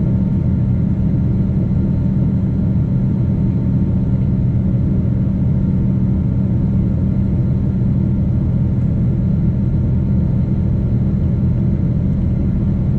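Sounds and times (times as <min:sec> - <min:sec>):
jet engine and airflow rumble: 0:00.0 - 0:12.9.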